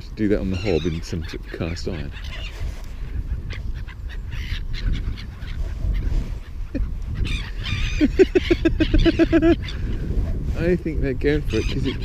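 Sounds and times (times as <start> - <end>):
seagulls calling: 0.0 - 10.2, 11.3 - 12.0
steady low rumble: 0.0 - 12.0.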